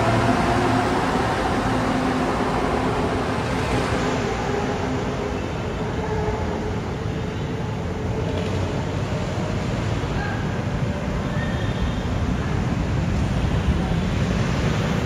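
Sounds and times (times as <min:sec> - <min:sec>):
light-rail train pulling away: 0:00.0 - 0:15.0.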